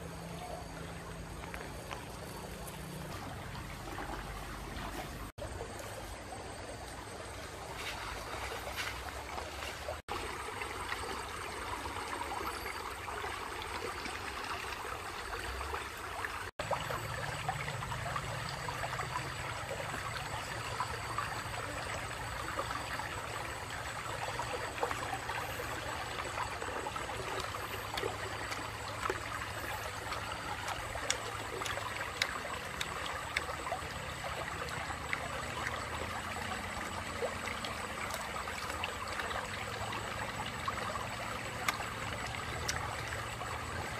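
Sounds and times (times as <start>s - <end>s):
river flowing over stones: 0.0s - 43.9s.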